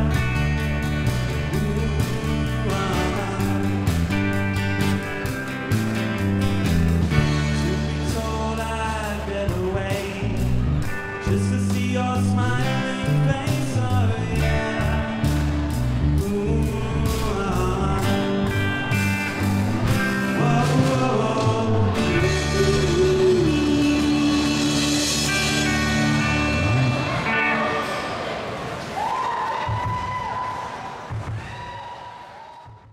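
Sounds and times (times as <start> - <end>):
electric bass: 0.0 - 27.9
drum kit: 0.0 - 28.1
acoustic guitar: 0.0 - 28.9
electric guitar: 0.0 - 29.1.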